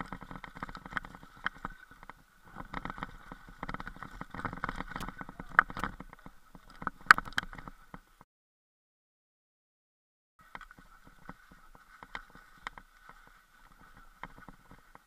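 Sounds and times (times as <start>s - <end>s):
mountain bike rattling over rocks: 0.0s - 8.0s, 10.5s - 15.0s.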